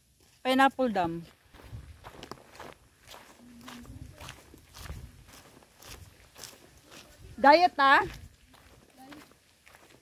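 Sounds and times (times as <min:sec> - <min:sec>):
footsteps on dirt trail: 0:00.0 - 0:10.0.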